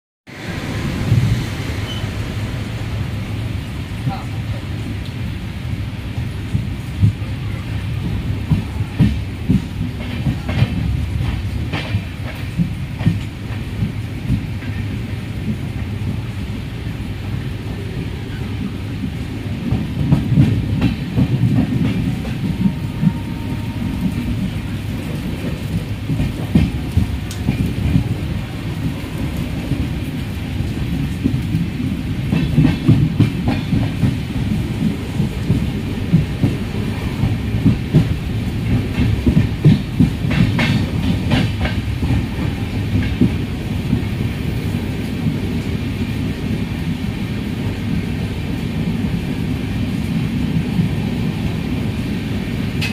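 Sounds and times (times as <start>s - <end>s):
low rumble of wheels on rail: 0.3s - 52.9s.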